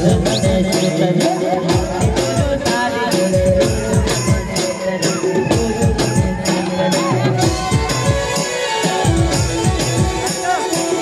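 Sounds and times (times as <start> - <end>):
sustained melody line: 0.0 - 11.0.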